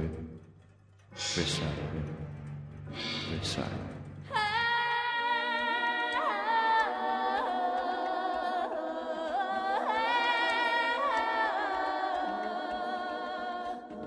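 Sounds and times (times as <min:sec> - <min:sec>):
slow theme music with sliding notes: 0:00.0 - 0:14.0.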